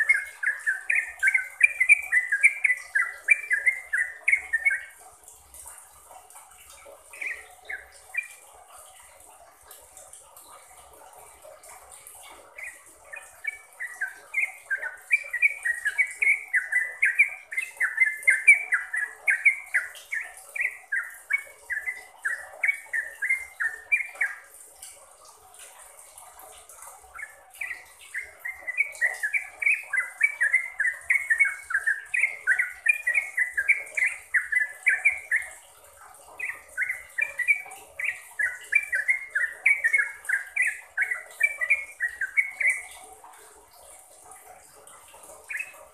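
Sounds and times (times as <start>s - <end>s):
bird singing bubbly song: 0.0s - 45.9s
faint background hiss: 0.0s - 45.9s.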